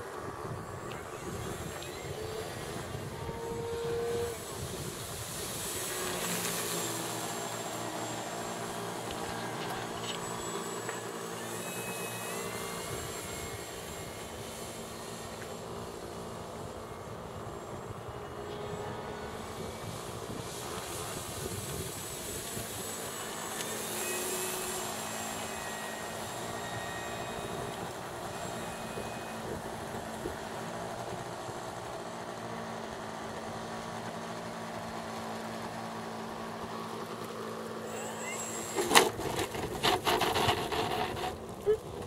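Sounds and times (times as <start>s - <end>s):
model plane motor and propeller: 0.0s - 42.0s.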